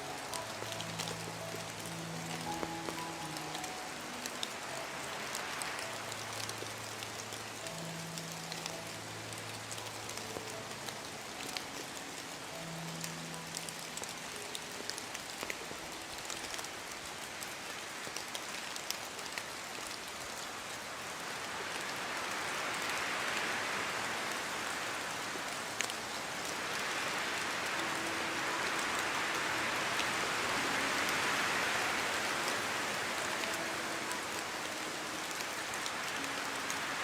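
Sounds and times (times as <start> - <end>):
rain falling on a surface: 0.0 - 37.0.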